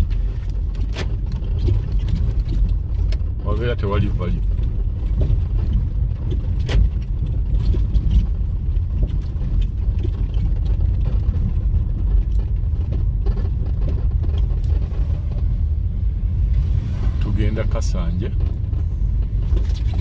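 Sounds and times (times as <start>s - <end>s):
car interior rumble: 0.0s - 20.0s.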